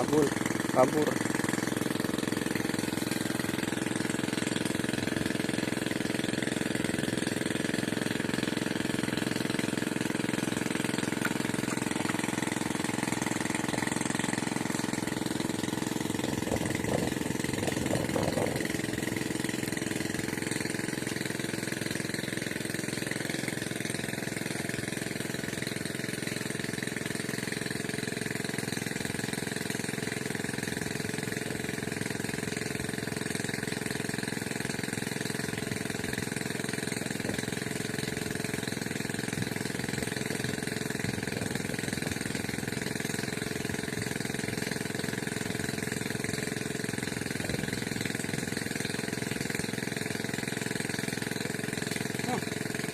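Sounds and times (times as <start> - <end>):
water pump engine running: 0.0 - 52.9.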